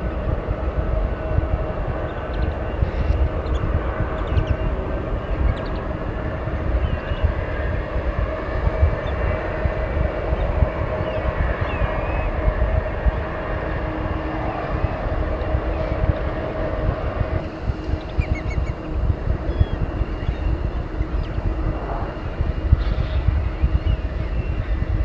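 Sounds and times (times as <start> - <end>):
jet engines whining: 0.0 - 25.0
wind buffeting microphone: 0.0 - 25.0.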